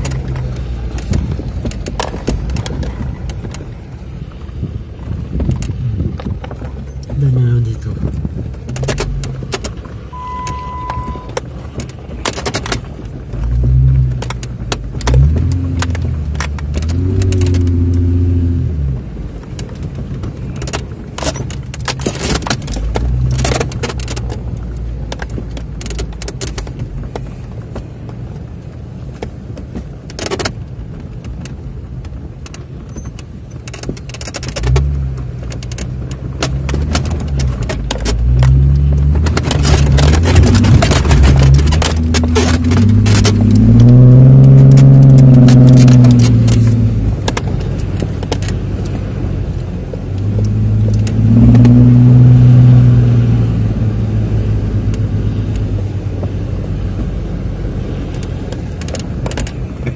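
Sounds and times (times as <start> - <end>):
car engine revving: 0.0 - 25.9, 34.2 - 59.9
vehicle knocks and rattles: 0.0 - 59.9.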